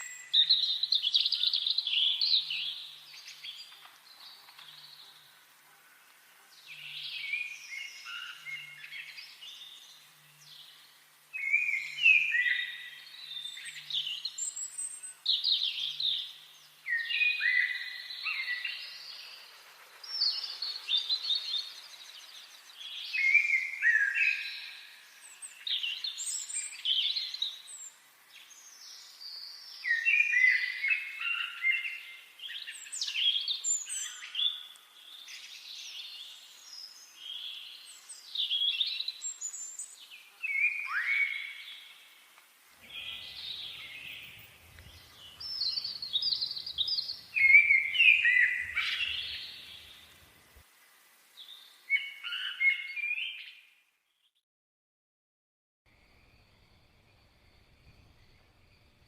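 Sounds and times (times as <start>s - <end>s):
songbirds chirping and warbling: 0.0s - 54.3s.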